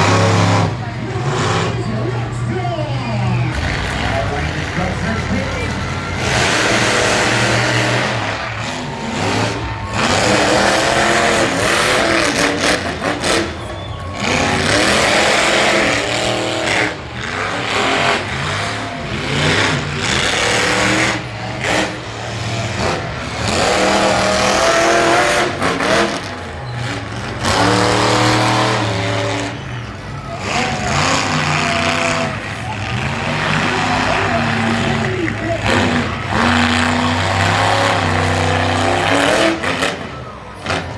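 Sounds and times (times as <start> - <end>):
monster truck engine revving: 0.0 - 40.9.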